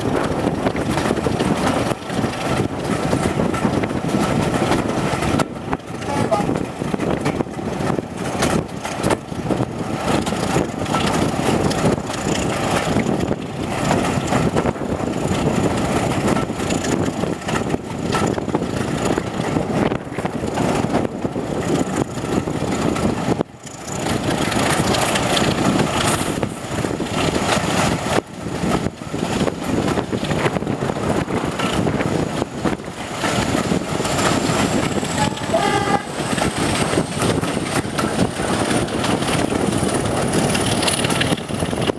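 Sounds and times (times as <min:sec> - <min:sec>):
diesel engine working: 0:00.0 - 0:41.9
train wheels on rails: 0:00.0 - 0:41.9
wind rush: 0:00.0 - 0:41.9.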